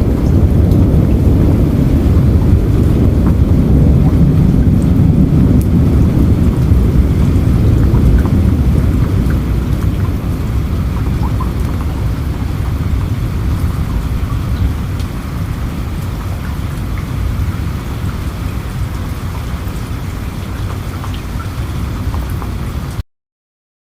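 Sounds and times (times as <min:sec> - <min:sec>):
deep low rumble: 0:00.0 - 0:22.7
steady rain: 0:00.0 - 0:23.0.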